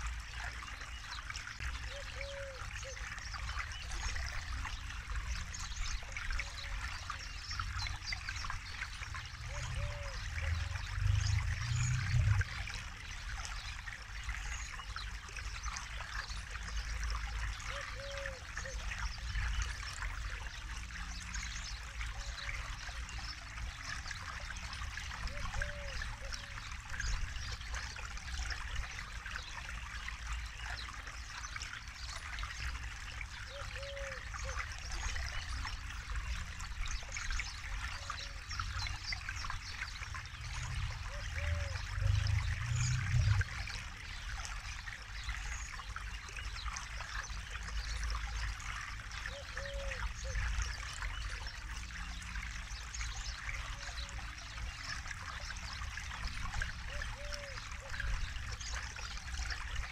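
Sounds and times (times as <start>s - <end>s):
river flowing over stones: 0.0s - 59.9s.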